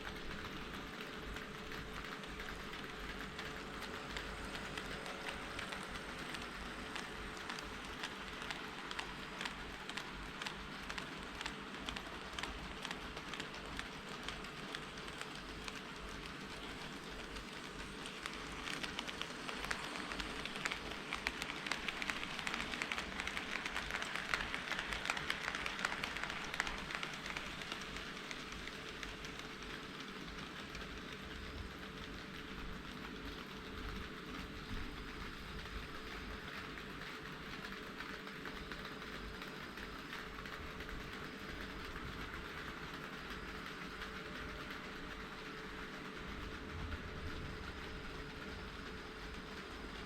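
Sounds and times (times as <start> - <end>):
model train wheels clicking: 0.0 - 50.0.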